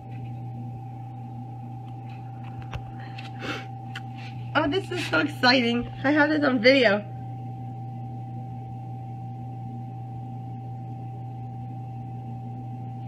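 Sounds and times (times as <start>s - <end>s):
fan humming: 0.0s - 13.0s
thin whine: 0.0s - 13.0s.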